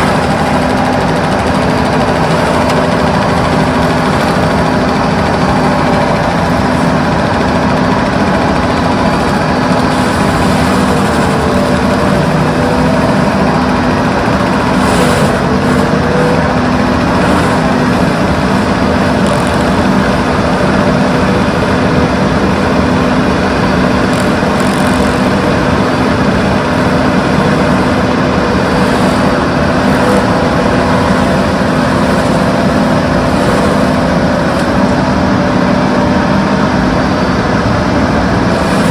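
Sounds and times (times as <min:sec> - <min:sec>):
excavator diesel engine drone: 0:00.0 - 0:38.9.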